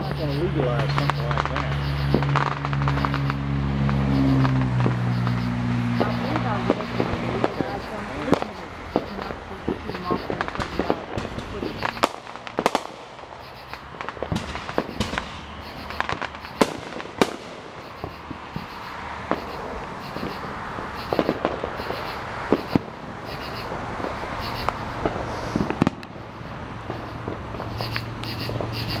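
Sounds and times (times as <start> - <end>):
distant fireworks: 0.0 - 29.0
fireworks sharp bangs: 0.0 - 29.0.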